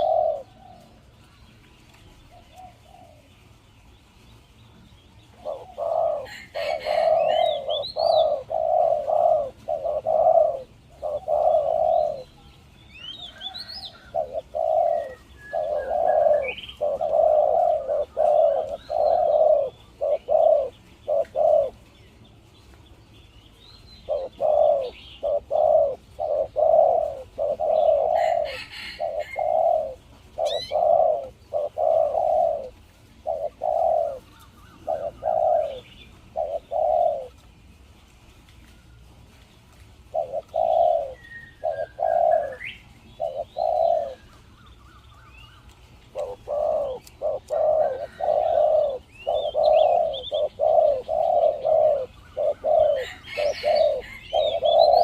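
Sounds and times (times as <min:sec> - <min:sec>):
dove cooing: 0:00.0 - 0:03.6, 0:04.8 - 0:22.2, 0:23.8 - 0:55.0
small birds chirping: 0:00.0 - 0:55.0.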